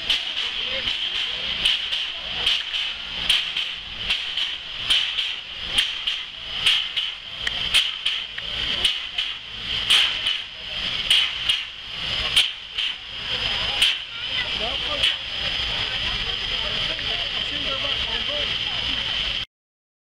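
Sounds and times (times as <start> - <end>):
steam locomotive hissing steam: 0.0 - 19.5.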